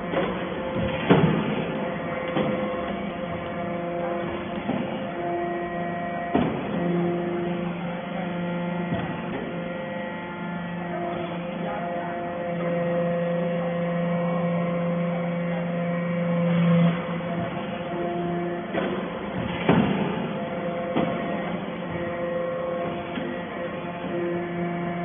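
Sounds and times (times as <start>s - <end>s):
hydraulic baler humming: 0.0s - 25.0s.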